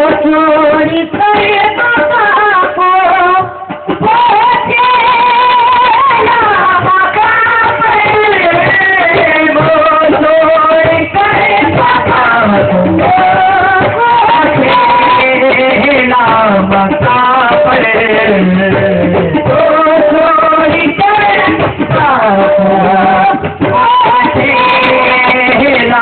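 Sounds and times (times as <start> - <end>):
instrumental accompaniment: 0.0 - 26.0
person singing devotional song: 0.0 - 26.0.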